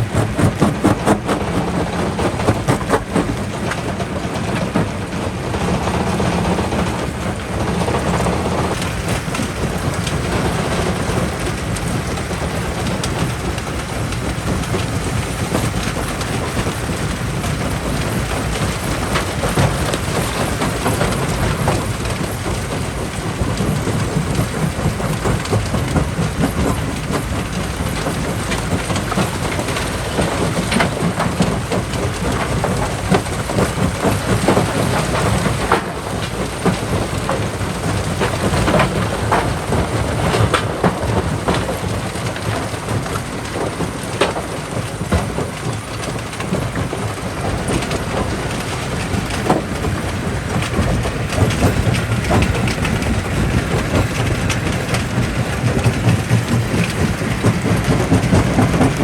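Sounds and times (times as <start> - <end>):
rock crusher rumbling: 0.0 - 59.0.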